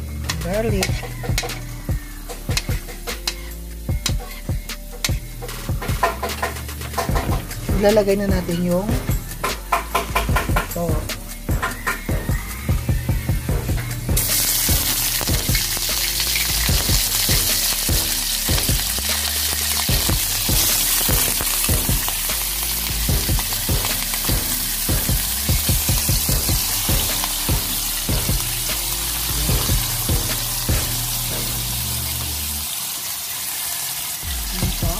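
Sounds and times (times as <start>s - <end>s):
meat sizzling in hot oil: 0.1s - 7.8s, 14.1s - 34.9s.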